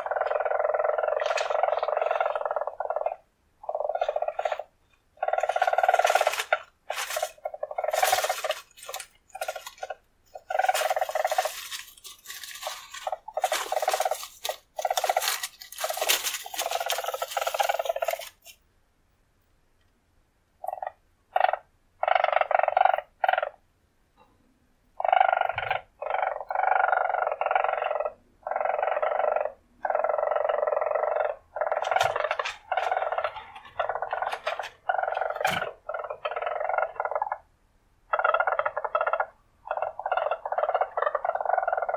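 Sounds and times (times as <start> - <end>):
weasel purring trills: 0.0 - 18.6, 20.6 - 23.6, 25.0 - 41.9.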